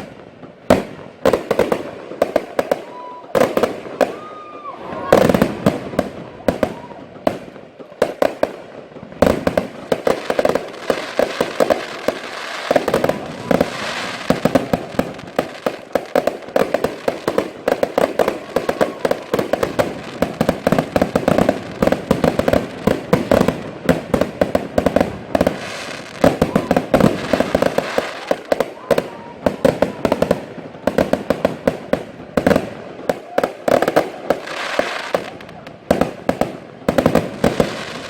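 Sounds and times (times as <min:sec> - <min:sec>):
fireworks shots and bangs: 0:00.0 - 0:38.0.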